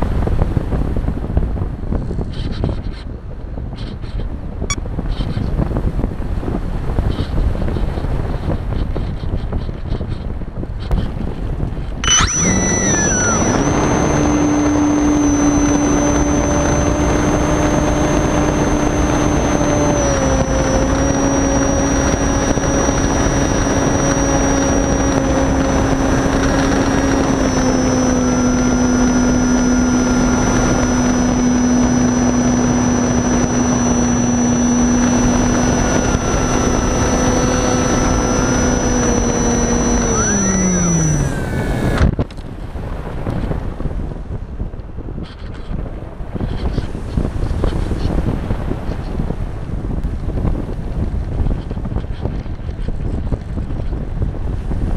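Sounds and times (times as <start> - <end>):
model glider motor and propeller: 0.0 - 44.1, 44.7 - 54.9.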